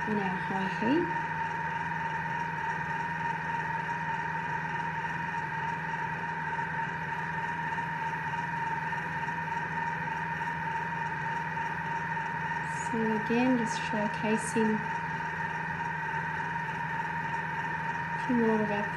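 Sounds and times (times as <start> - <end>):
machine hum with high tone: 0.0 - 18.9.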